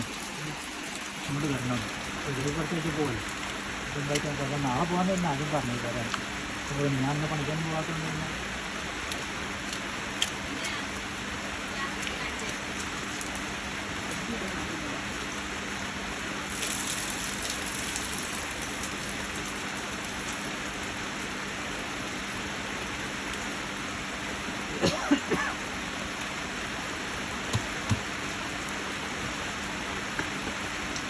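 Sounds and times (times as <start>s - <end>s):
rain hissing: 0.0s - 31.0s.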